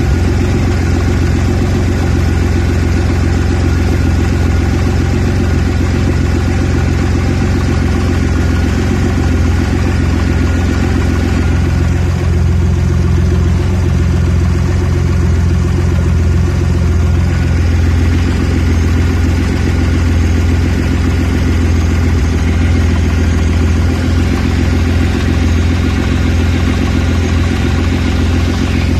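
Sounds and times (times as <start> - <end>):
car engine idling roughly: 0.0 - 28.9.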